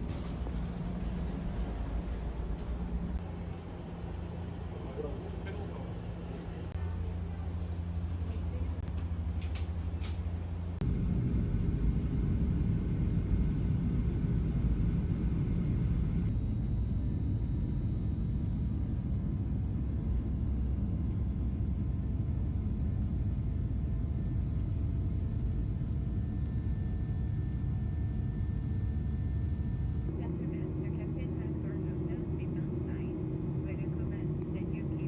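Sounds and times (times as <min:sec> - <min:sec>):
airliner engines from cabin: 0:00.0 - 0:35.0.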